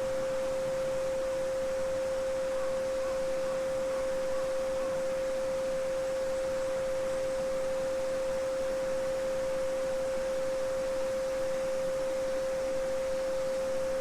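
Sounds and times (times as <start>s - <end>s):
steady sine tone: 0.0s - 14.0s.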